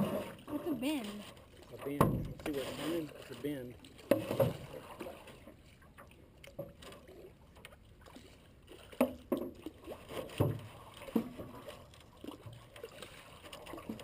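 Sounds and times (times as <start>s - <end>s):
paddles splashing water: 0.0s - 14.0s.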